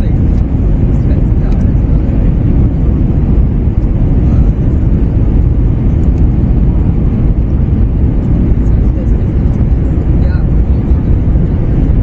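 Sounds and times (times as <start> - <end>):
airflow around fuselage: 0.0 - 12.0
low rumble of jet engines: 0.0 - 12.0.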